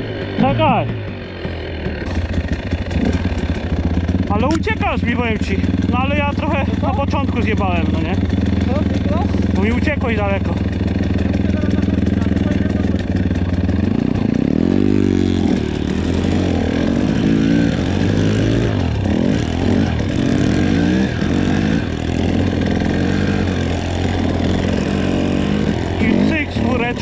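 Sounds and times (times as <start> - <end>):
motorbike engine idling and revving: 0.0 - 27.0.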